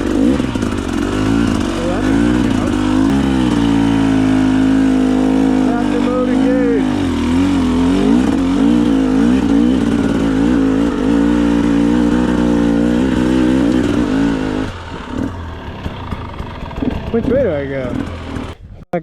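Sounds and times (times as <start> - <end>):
dirt bike engine lugging: 0.0 - 18.8.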